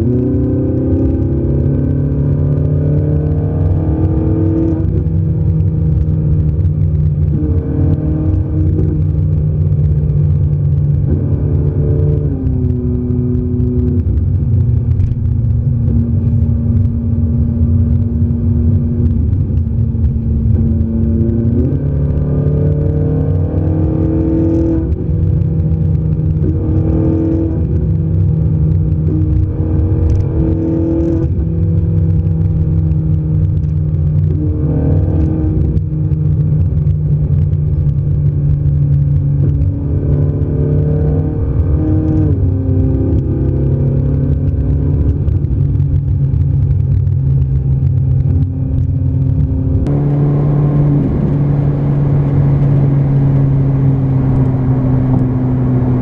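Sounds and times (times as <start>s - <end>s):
car engine drone from cabin: 0.0s - 56.0s
tyre and road noise: 0.0s - 56.0s.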